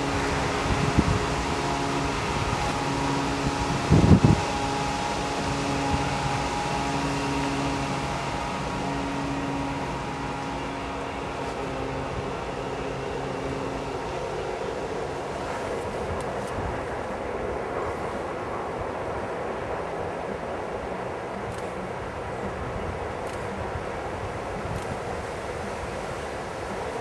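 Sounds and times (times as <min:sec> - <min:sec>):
locomotive engine humming: 0:00.0 - 0:27.0.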